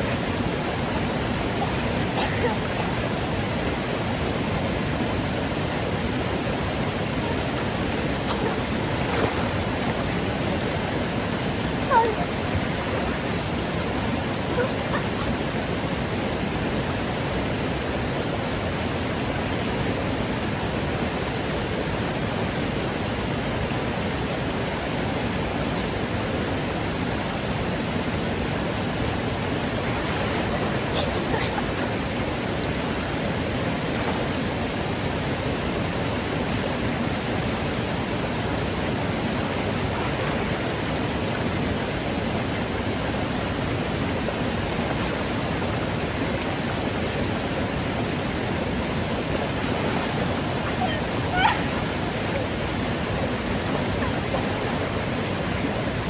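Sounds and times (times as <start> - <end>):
stream water rushing over rocks: 0.0 - 56.0.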